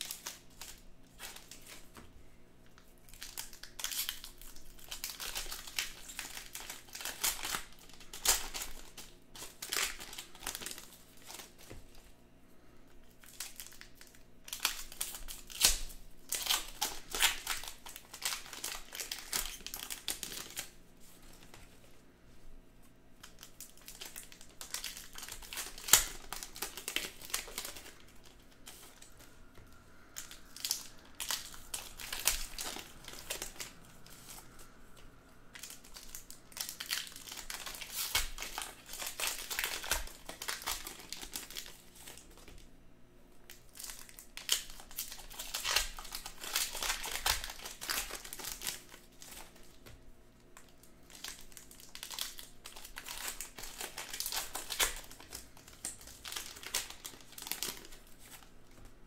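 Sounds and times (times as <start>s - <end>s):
wrappers crinkling and tearing: 0.0s - 2.0s, 2.6s - 12.1s, 13.0s - 22.0s, 23.2s - 42.7s, 43.4s - 59.0s.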